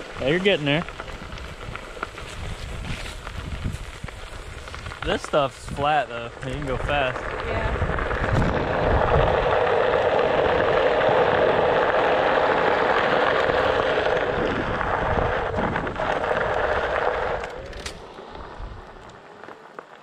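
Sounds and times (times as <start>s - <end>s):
tyre crunching over gravel: 0.0s - 20.0s.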